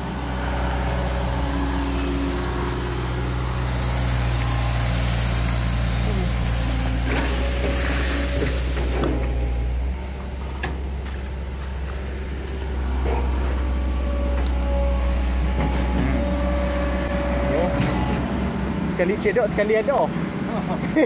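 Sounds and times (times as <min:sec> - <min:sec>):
excavator diesel engine humming: 0:00.0 - 0:21.0.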